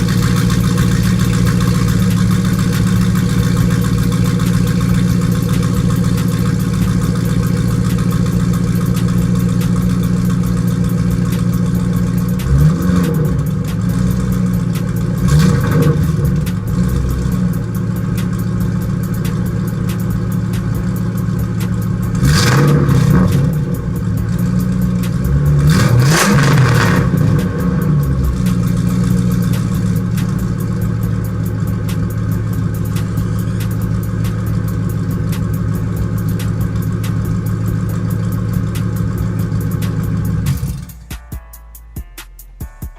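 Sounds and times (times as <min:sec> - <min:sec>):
car exhaust idling and revving: 0:00.0 - 0:42.6.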